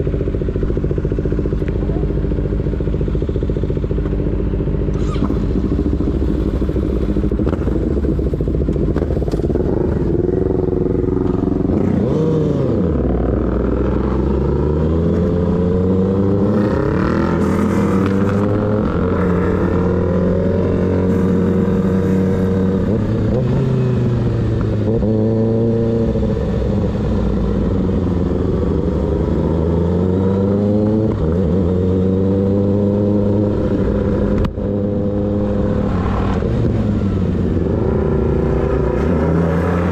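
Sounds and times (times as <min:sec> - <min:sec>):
motorcycle engine through gear changes: 0:00.3 - 0:39.9.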